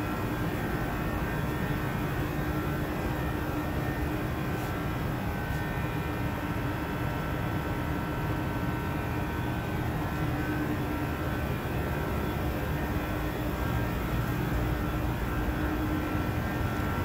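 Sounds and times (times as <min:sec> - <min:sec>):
air handling fans droning: 0:00.0 - 0:17.0.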